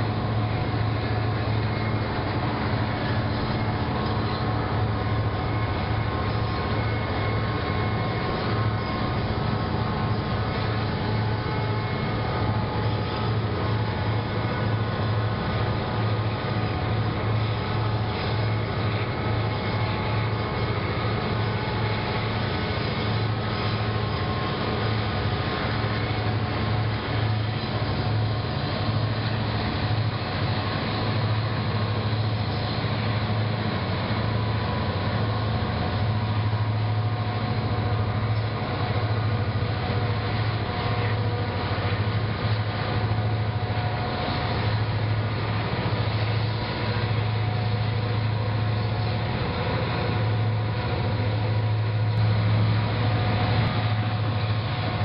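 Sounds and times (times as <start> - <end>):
locomotive engines droning: 0.0 - 55.0
train rumble: 0.0 - 55.0.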